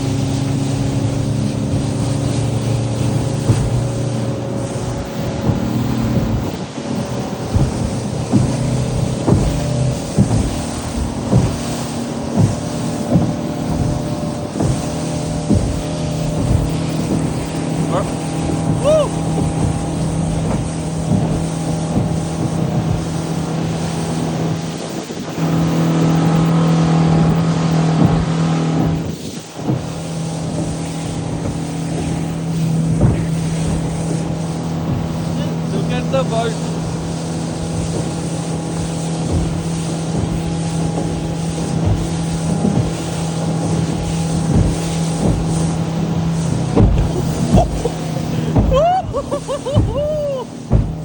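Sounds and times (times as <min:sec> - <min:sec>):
low thumps: 0:00.0 - 0:51.0
motorboat engine running: 0:00.0 - 0:51.0
rushing water: 0:00.0 - 0:51.0
wind: 0:00.0 - 0:51.0.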